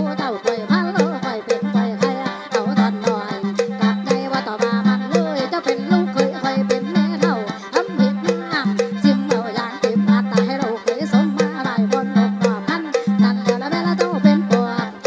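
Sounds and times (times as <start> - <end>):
fast ticking percussion: 0.0 - 15.0
folk music drone and melody: 0.0 - 15.0.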